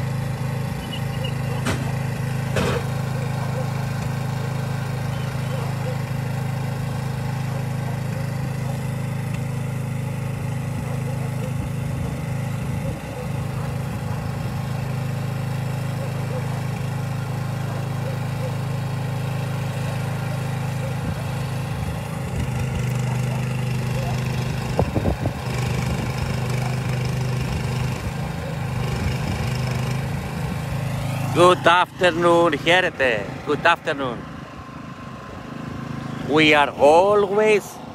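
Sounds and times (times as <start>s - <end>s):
small engine running: 0.0s - 37.9s.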